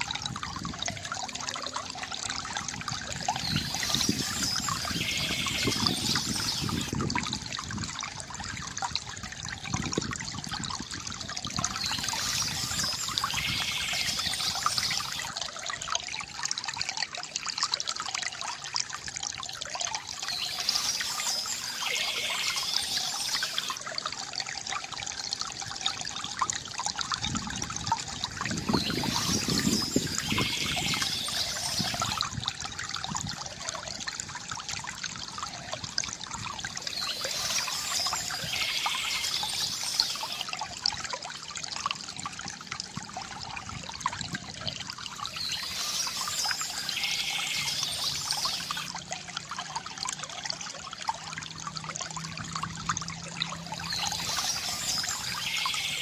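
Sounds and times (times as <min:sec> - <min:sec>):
fountain water trickling: 0:00.0 - 0:56.0.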